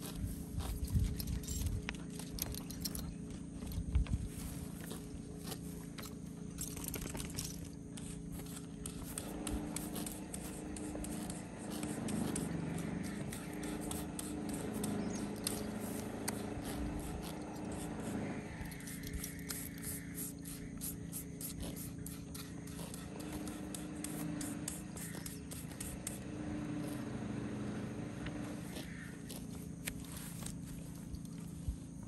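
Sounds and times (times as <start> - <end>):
brush scraping horse coat: 0.0 - 32.0
low drone: 0.0 - 32.0.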